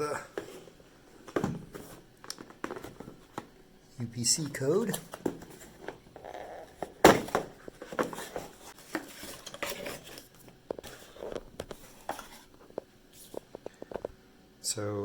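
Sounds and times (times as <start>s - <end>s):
packaging rustling: 0.4s - 3.6s, 4.4s - 14.1s.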